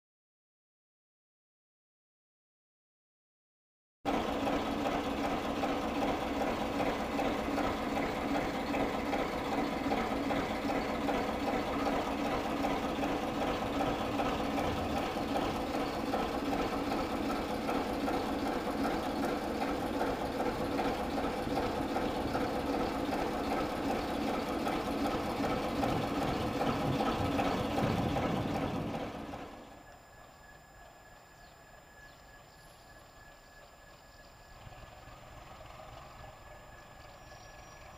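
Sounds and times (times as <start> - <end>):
locomotive diesel engine throbbing: 4.1 - 37.9.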